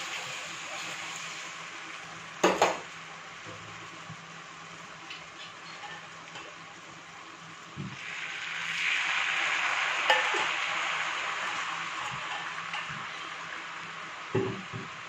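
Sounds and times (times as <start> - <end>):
sauce sizzling in frying pan: 0.0 - 15.0.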